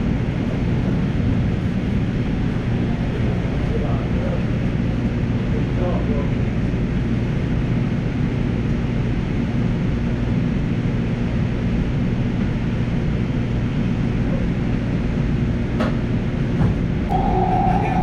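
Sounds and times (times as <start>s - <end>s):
light-rail train rumbling: 0.0s - 18.0s.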